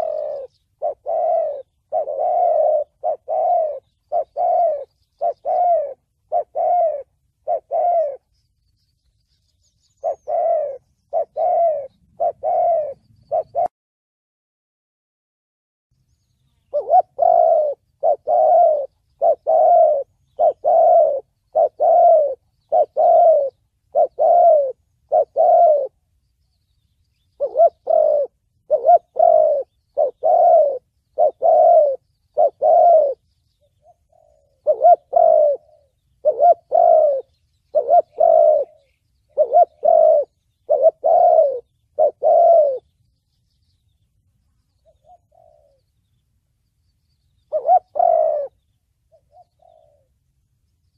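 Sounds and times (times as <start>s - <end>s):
dove cooing: 0.0s - 8.4s, 9.6s - 13.7s, 16.6s - 26.1s, 27.2s - 42.9s, 44.7s - 46.2s, 47.4s - 50.2s.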